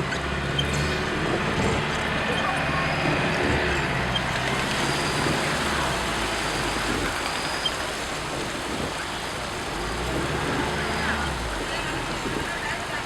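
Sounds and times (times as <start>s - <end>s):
rain and water rushing: 0.0s - 13.0s
vehicle engine hum: 0.0s - 13.0s.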